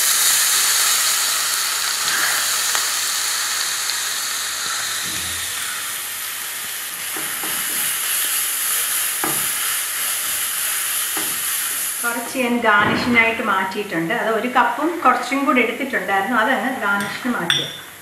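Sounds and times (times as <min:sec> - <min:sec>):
carrot sizzling in a pan: 0:00.0 - 0:18.0.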